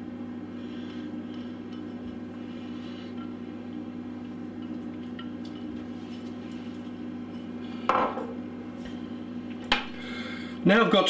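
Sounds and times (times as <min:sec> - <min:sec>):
steady low electrical hum: 0:00.0 - 0:11.0.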